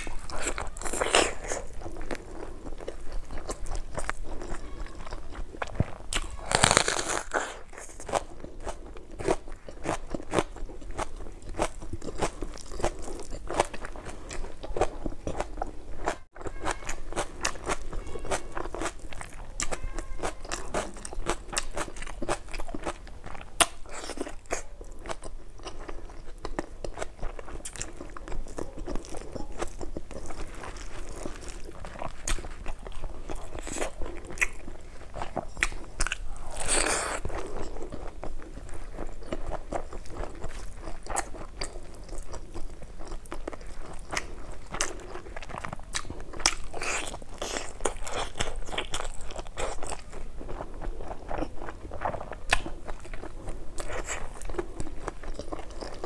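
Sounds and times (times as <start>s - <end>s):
crisp crunching: 0.0s - 56.0s
wet chewing: 0.0s - 56.0s.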